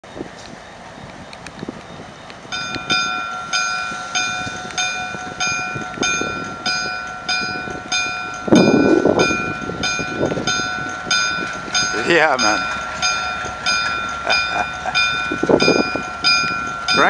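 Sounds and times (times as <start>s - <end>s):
diesel engine noise: 0.0s - 17.0s
locomotive bell ringing: 2.0s - 17.0s.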